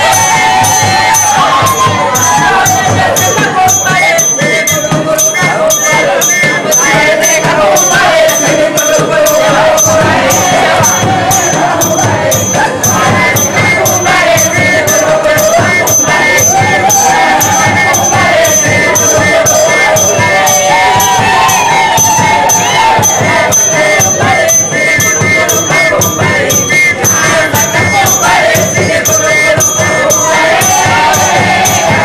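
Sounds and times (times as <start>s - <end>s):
group singing: 0.0s - 32.0s
jingling percussion beat: 0.0s - 32.0s.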